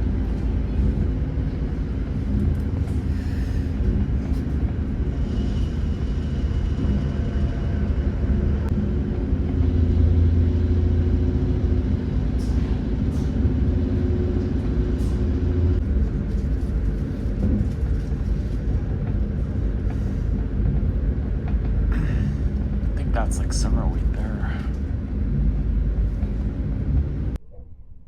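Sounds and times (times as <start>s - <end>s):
passenger train rumbling: 0.0s - 27.4s.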